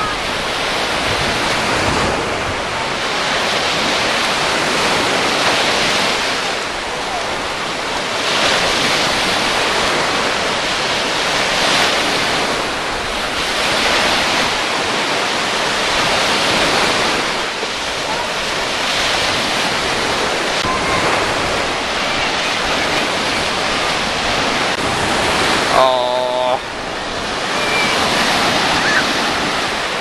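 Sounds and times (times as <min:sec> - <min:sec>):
lake waves washing on shore: 0:00.0 - 0:30.0.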